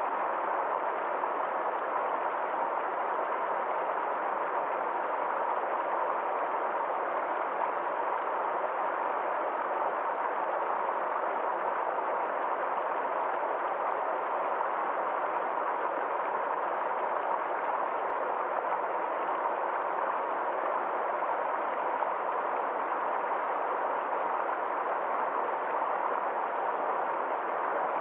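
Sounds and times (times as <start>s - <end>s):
stream flowing: 0.0s - 28.0s.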